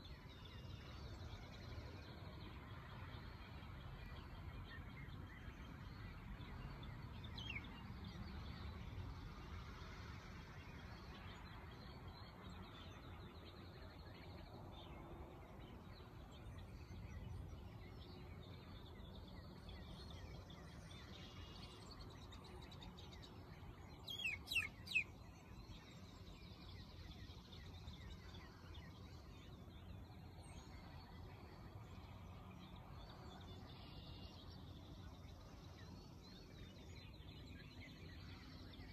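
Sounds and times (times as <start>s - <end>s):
faint outdoor background: 0.0s - 38.9s.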